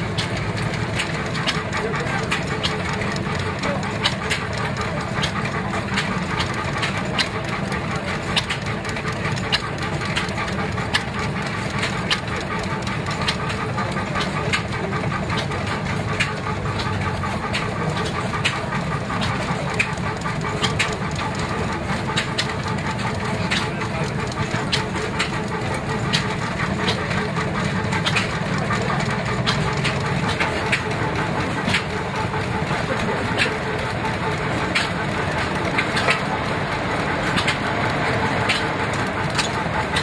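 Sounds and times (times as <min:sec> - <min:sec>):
steam engine running: 0:00.0 - 0:40.0.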